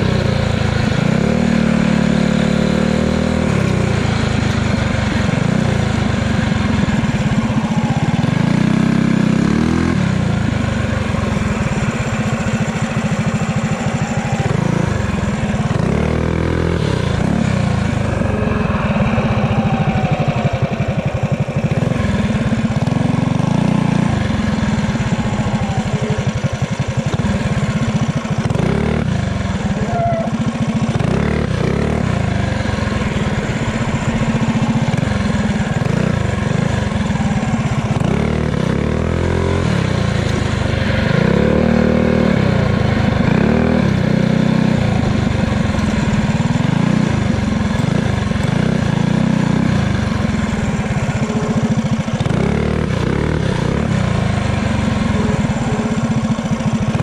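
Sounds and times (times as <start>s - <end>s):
small motorbike engine revving: 0.0s - 57.0s.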